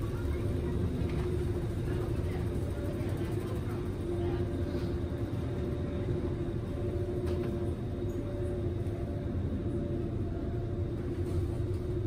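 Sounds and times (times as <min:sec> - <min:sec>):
ferry engines droning: 0:00.0 - 0:12.0.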